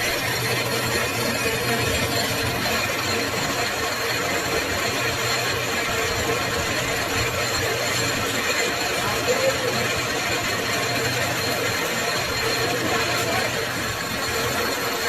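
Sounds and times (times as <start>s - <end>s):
metal lathe humming: 0.0s - 15.0s.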